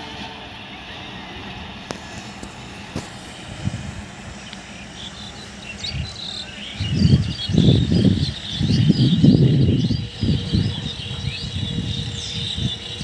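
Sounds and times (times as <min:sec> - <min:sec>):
birds chirping: 0:00.0 - 0:13.0
low rumble in gusts: 0:00.7 - 0:13.0.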